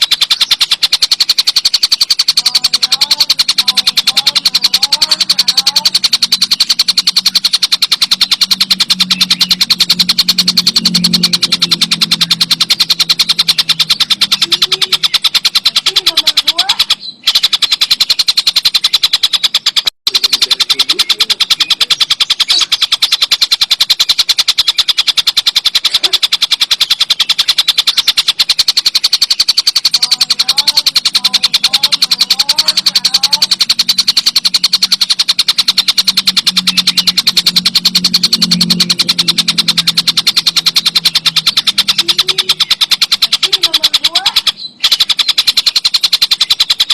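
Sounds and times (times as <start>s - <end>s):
kingfisher rattling chatter: 0.0s - 46.9s.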